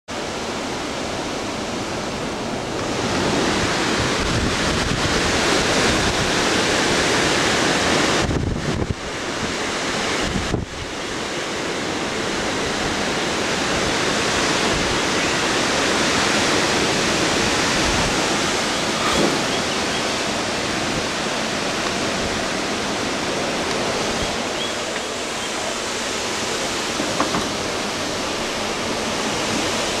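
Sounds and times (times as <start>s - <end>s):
hurricane wind and rain roar: 0.1s - 30.0s
wind buffeting microphone: 1.2s - 30.0s.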